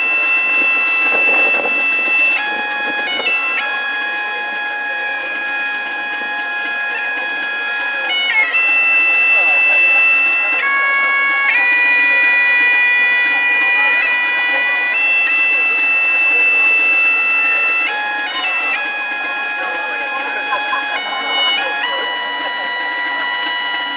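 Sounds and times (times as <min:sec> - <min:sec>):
reed wind instrument long notes: 0:00.0 - 0:23.9.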